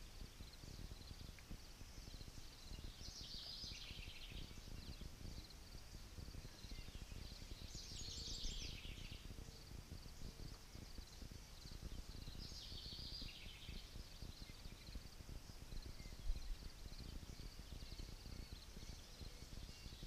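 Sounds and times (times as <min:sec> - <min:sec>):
low wind rumble: 0:00.0 - 0:20.0
songbird singing rapid notes: 0:00.0 - 0:20.0.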